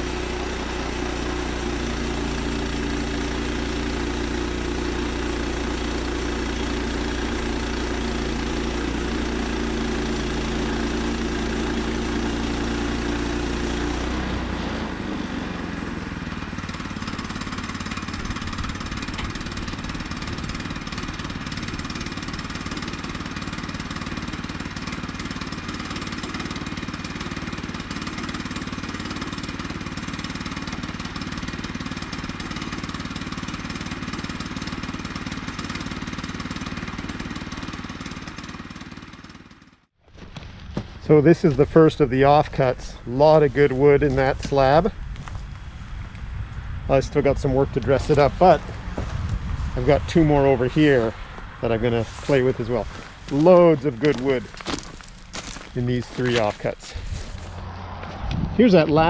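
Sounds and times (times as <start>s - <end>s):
small gas engine running: 0.0s - 59.0s.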